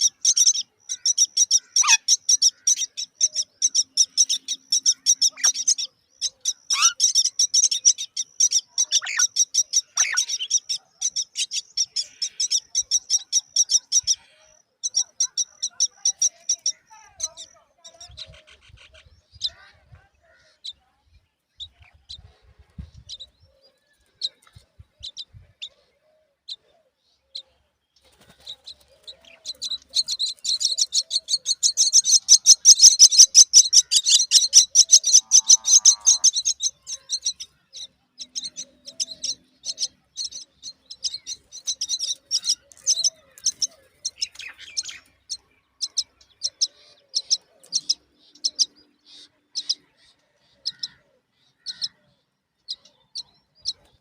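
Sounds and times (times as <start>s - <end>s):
bird chicks chirping: 0.0s - 54.0s.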